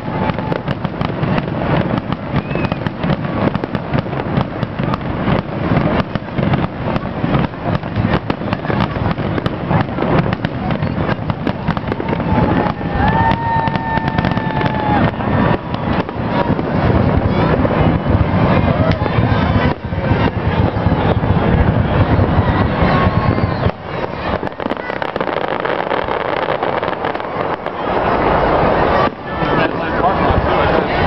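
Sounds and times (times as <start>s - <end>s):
firework whistle: 0.0s - 29.8s
fireworks bangs and crackles: 0.0s - 31.0s.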